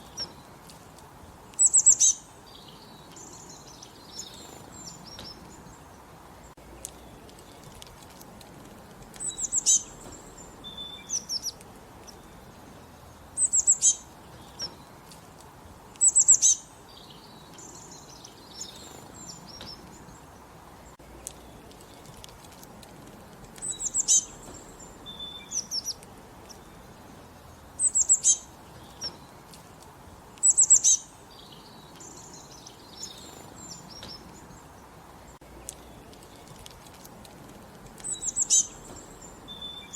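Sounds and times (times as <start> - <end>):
faint steady hiss: 0.0 - 39.9
soft bird chirps: 0.0 - 39.9
songbirds singing: 0.0 - 39.9.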